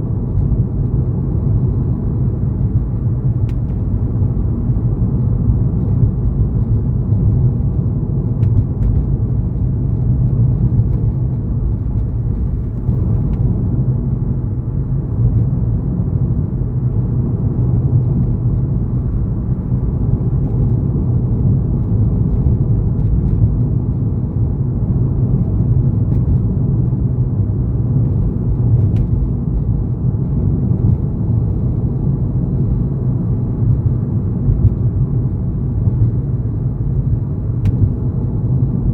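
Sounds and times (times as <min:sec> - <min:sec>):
car tyres and engine rumble: 0:00.0 - 0:38.9.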